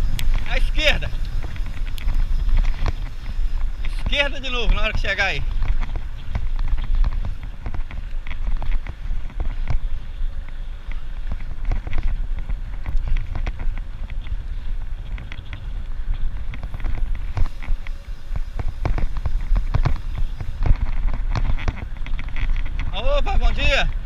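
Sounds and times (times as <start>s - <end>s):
bicycle rattling on dirt road: 0.0s - 24.0s
wind buffeting microphone: 0.0s - 24.0s.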